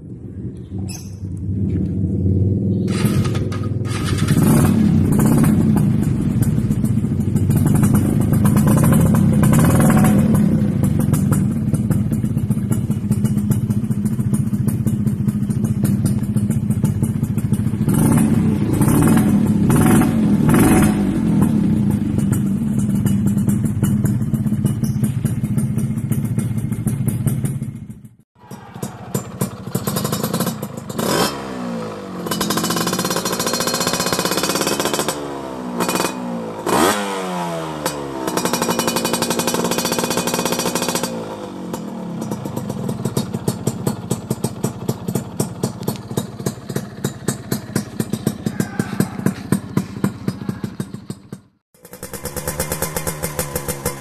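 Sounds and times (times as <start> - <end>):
motorcycle idling and revving: 0.0 - 54.0.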